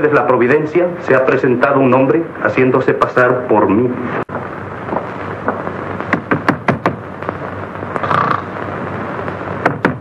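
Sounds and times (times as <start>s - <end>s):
film soundtrack hiss: 0.0s - 10.0s.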